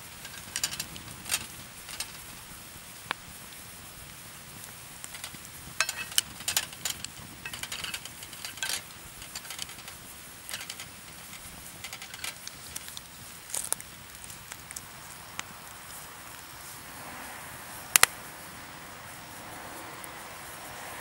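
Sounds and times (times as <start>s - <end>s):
sharp pops and crackles: 0.0s - 16.7s, 17.9s - 18.2s
food sizzling in a skillet: 0.0s - 17.0s.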